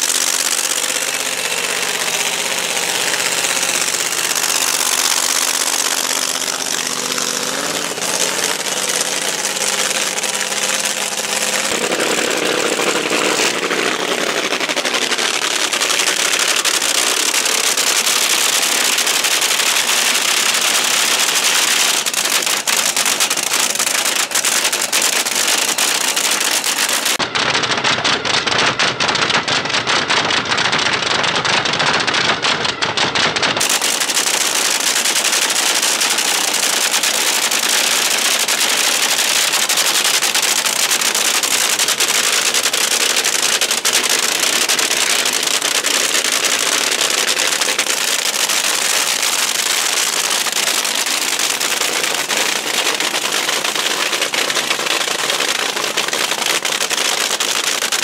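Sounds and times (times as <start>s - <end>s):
drag racing engines crackling: 0.0s - 58.0s.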